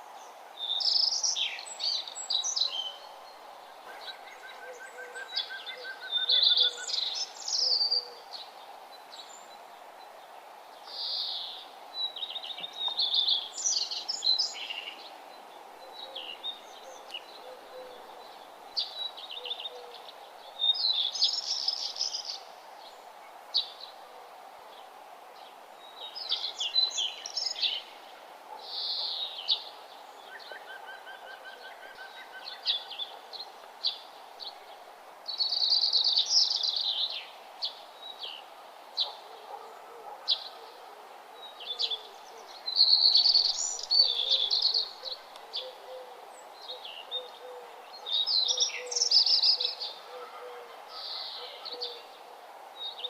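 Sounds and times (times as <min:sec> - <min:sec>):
birds singing and chirping: 0:00.0 - 0:08.5, 0:10.9 - 0:15.2, 0:15.8 - 0:23.0, 0:25.8 - 0:50.3, 0:50.9 - 0:52.2
background hiss: 0:00.0 - 0:53.0.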